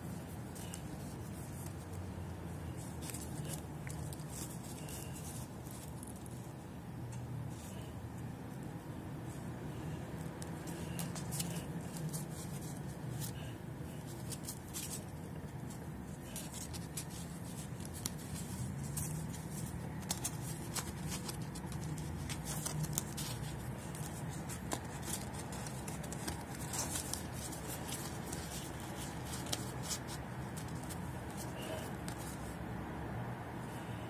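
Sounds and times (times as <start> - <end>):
paper rustling: 0.1 - 6.7, 9.7 - 32.6.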